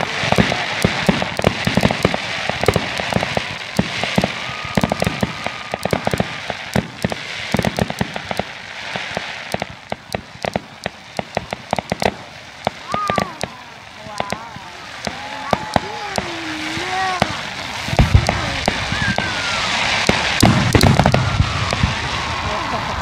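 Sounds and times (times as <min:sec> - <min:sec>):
fireworks bangs: 0:00.0 - 0:23.0
fireworks crackling hiss: 0:00.0 - 0:23.0.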